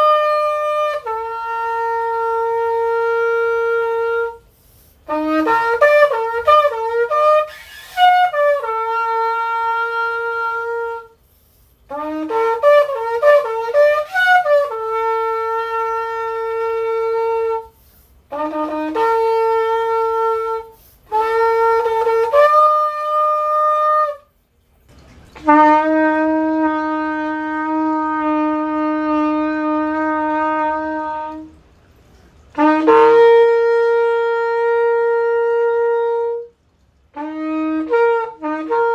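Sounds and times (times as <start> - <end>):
shofar blasts: 0.0 - 24.4, 25.3 - 38.9.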